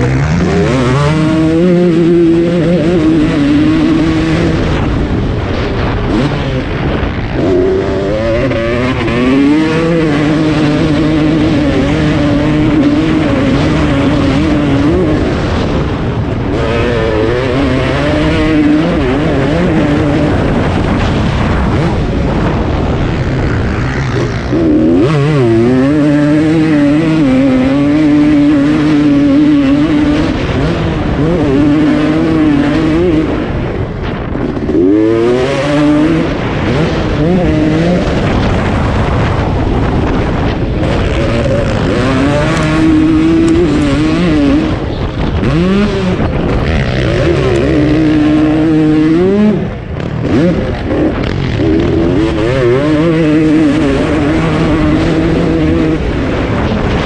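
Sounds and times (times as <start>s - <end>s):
motocross engine revving: 0.0s - 57.0s.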